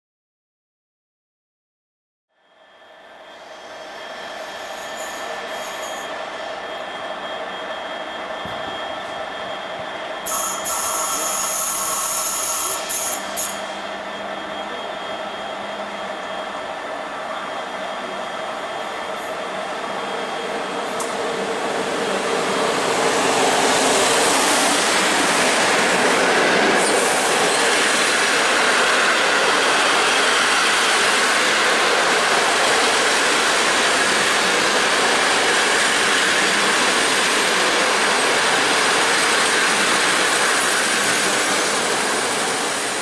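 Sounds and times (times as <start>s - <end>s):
train wheels rushing on rails: 3.1s - 43.0s.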